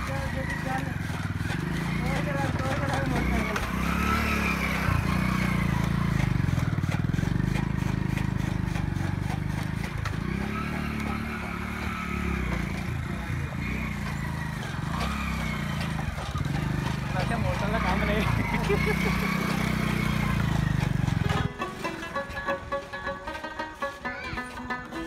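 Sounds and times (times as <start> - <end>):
motorcycle engine running under load: 0.0 - 25.0.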